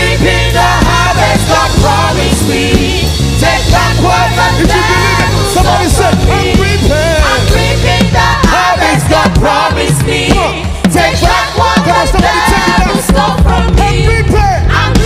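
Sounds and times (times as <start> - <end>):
gospel band music: 0.0 - 15.0
heavy bass: 0.0 - 15.0.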